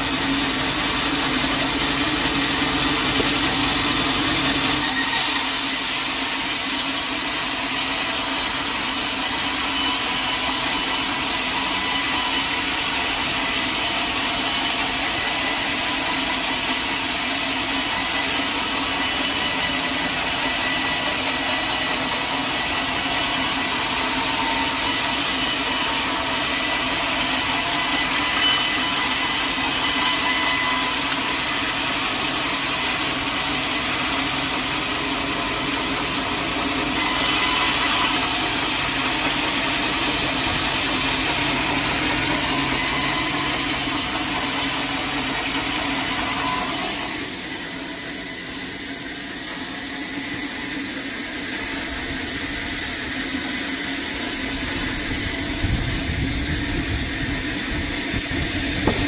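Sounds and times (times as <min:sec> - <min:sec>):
sawmill blade cutting log: 0:00.0 - 0:59.0.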